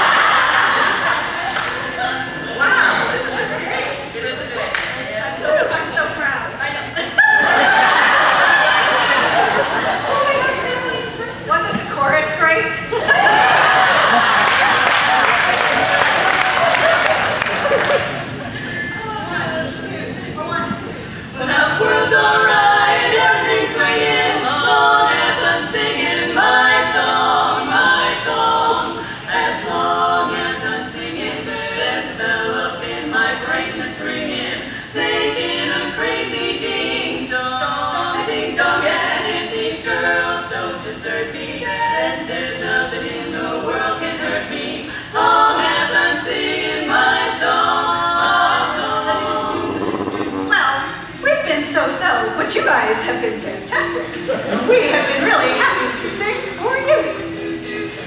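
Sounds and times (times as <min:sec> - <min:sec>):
women singing a cappella: 0:00.0 - 0:14.2, 0:18.6 - 0:58.0.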